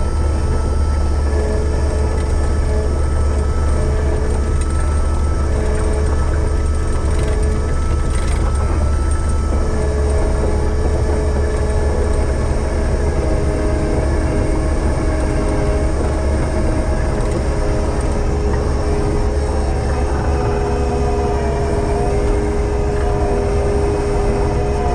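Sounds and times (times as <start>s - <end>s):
diesel engine drone: 0.0s - 24.9s
steady machine whine: 0.0s - 24.9s.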